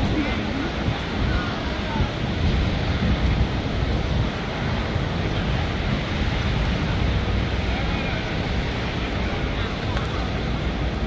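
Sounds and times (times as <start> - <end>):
outdoor background noise: 0.0 - 11.0
wind rumbling on microphone: 0.0 - 11.0.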